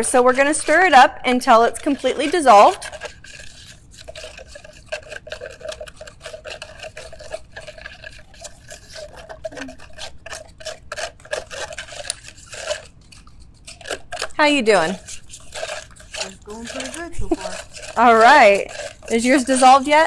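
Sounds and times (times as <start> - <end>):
spoons scraping plastic tubs: 0.0 - 20.0.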